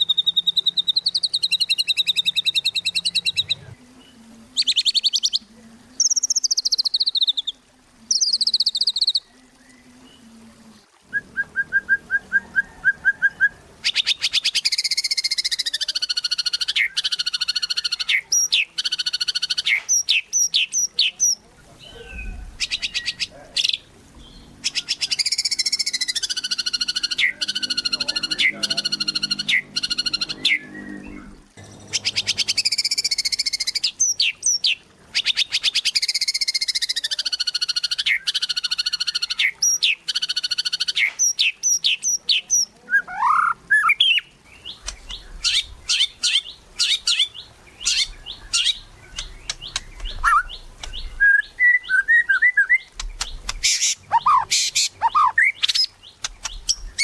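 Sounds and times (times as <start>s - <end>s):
songbird whistling and trilling: 0.0s - 3.6s, 11.1s - 21.4s, 24.6s - 57.0s.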